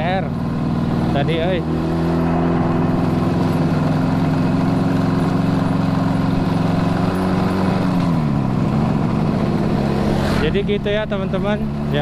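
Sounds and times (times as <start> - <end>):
two-stroke motorcycle engine running: 0.0 - 12.0.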